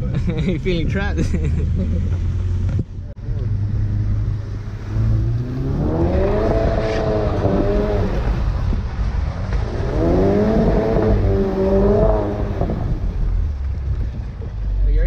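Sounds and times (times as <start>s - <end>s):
car engine accelerating: 0.0s - 15.0s
low road rumble: 0.0s - 15.0s.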